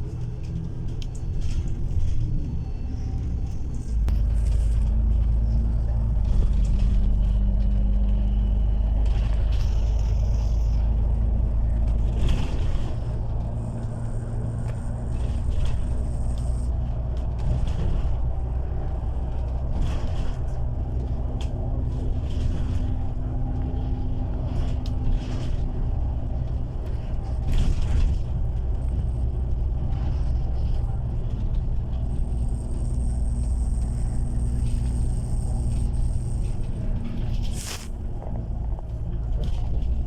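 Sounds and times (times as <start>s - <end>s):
bus engine drone: 0.0s - 40.0s
road rumble: 0.0s - 40.0s.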